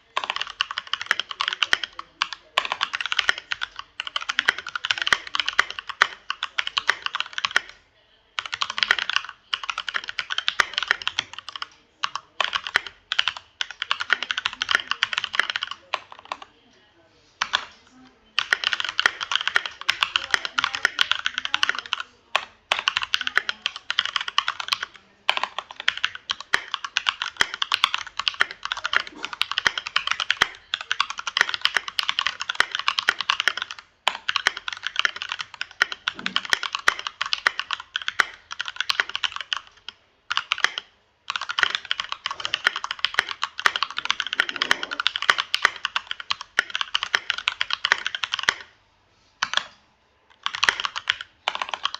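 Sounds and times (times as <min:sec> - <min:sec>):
mechanical keyboard typing: 0:00.0 - 0:07.8, 0:08.4 - 0:16.5, 0:17.4 - 0:48.7, 0:49.4 - 0:51.9.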